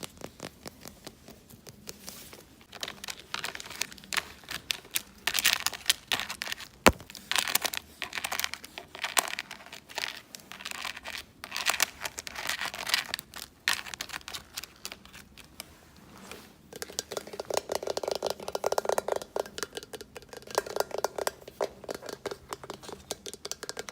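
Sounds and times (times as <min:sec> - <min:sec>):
scratching and crinkling: 0:00.0 - 0:23.9.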